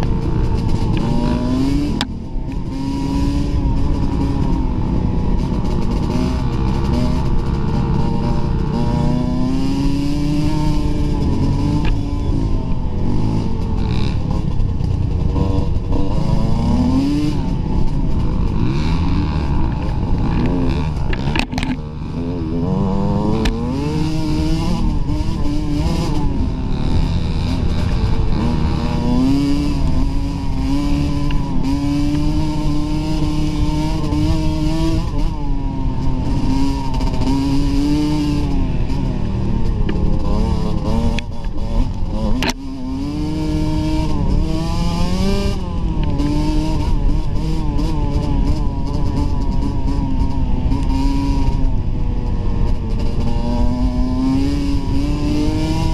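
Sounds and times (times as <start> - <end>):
dirt bike engine accelerating: 0.0 - 55.9.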